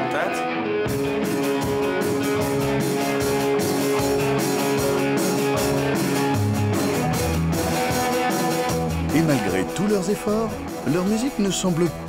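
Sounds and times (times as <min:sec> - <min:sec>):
electric guitar chords: 0:00.0 - 0:12.0
drum kit beat: 0:00.8 - 0:12.0.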